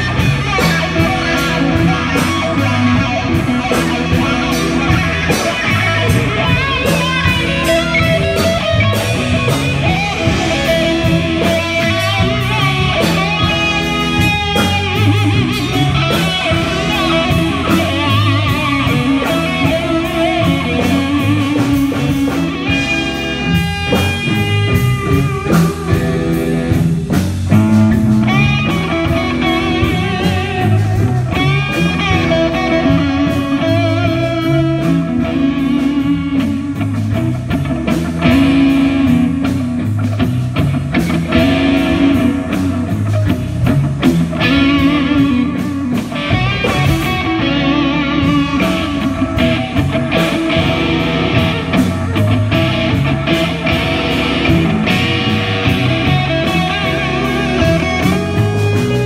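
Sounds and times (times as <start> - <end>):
electric guitar solo: 0.0 - 59.0
live rock band: 0.0 - 59.0.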